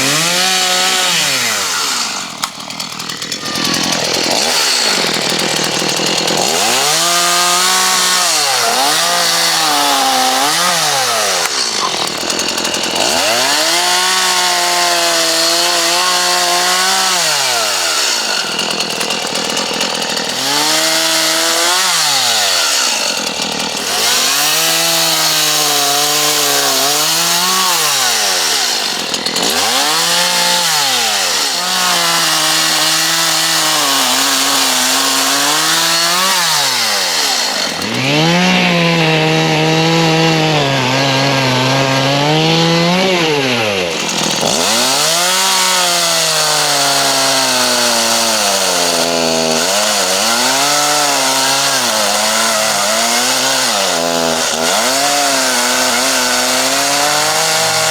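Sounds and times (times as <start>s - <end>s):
chainsaw revving and cutting: 0.0s - 57.9s.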